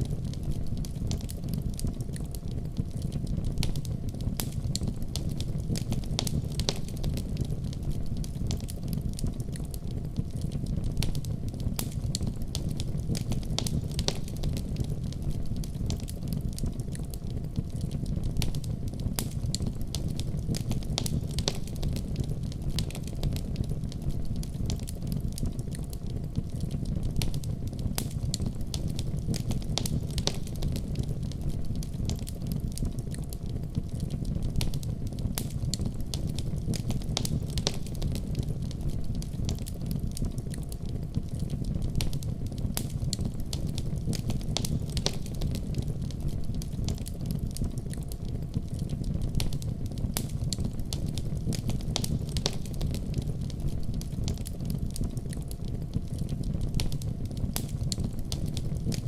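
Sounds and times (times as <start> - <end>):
fire crackling and popping: 0.0 - 59.0
low fire rumble: 0.0 - 59.0.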